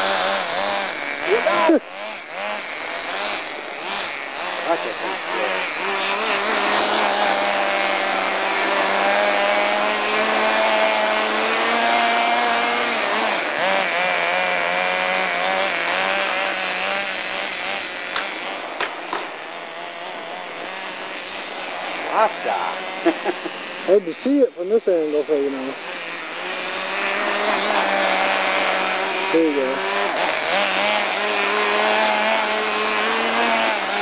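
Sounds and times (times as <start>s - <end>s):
radio-controlled truck motor: 0.0s - 34.0s.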